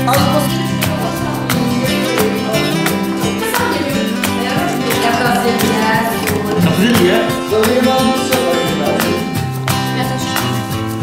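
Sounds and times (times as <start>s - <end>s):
latin guitar music: 0.0s - 11.0s.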